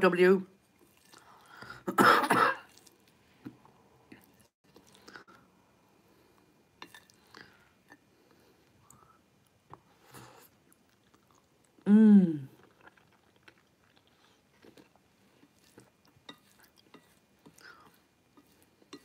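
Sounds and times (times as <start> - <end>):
person chewing noodles: 0.6 - 1.8, 2.6 - 5.5, 6.8 - 11.8, 12.5 - 19.0.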